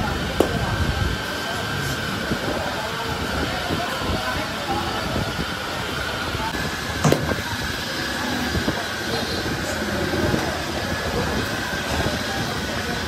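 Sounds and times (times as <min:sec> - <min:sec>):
busy street noise: 0:00.0 - 0:13.0
voices in background: 0:00.0 - 0:13.0.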